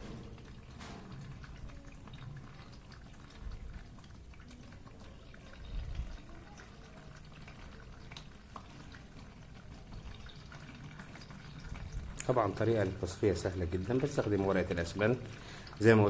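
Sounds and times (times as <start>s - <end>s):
liquid dripping and trickling: 0.0s - 16.0s.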